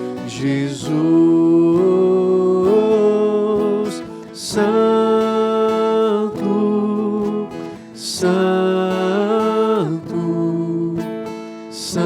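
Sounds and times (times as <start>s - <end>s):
acoustic guitar: 0.0s - 12.0s
slow worship song: 0.0s - 12.0s.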